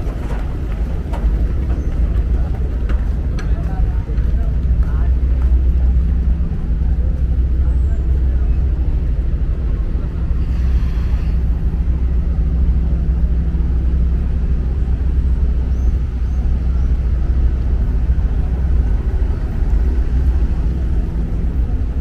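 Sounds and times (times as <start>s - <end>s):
boat diesel engine rumbling: 0.0s - 22.0s.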